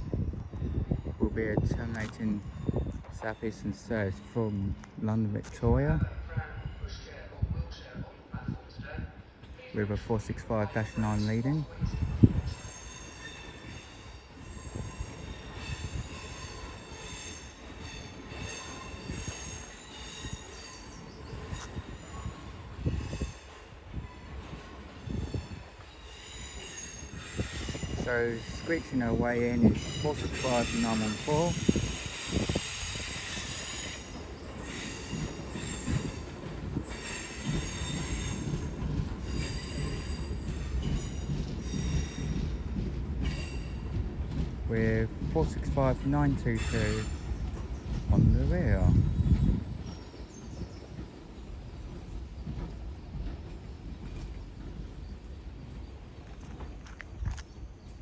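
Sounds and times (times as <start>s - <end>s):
low rolling rumble of train: 0.0s - 58.0s
train wheels screeching: 10.5s - 58.0s.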